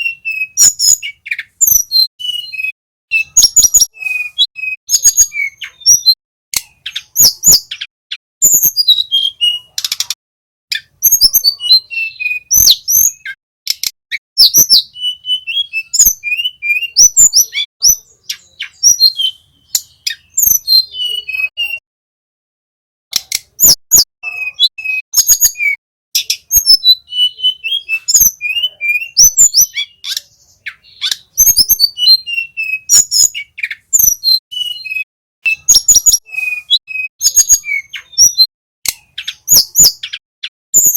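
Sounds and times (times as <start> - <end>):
songbird singing: 0.0 - 21.8, 23.1 - 40.9.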